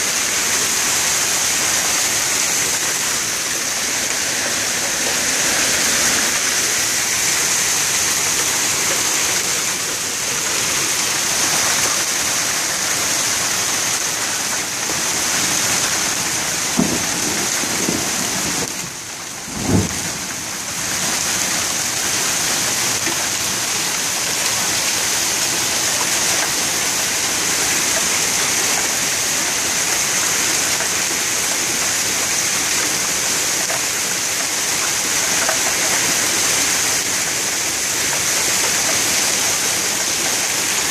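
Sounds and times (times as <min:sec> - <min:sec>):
hail and rain pelting pavement and cars: 0:00.0 - 0:40.9.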